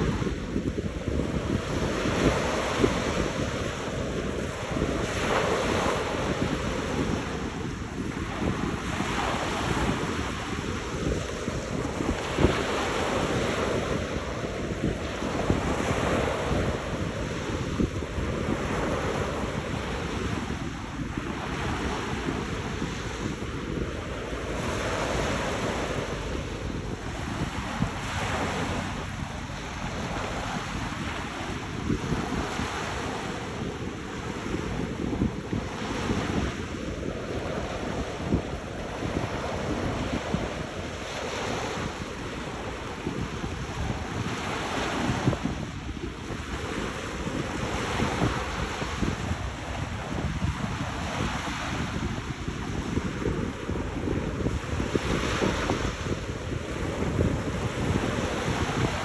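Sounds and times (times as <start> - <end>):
waves washing up pebble beach: 0.0 - 59.0
wind buffeting microphone: 0.0 - 59.0.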